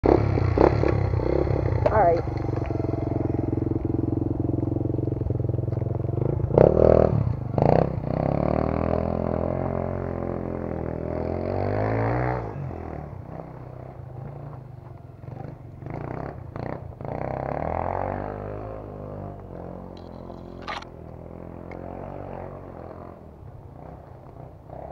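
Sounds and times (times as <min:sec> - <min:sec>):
dirt bike engine revving: 0:00.0 - 0:05.4, 0:06.1 - 0:14.3, 0:15.4 - 0:23.2.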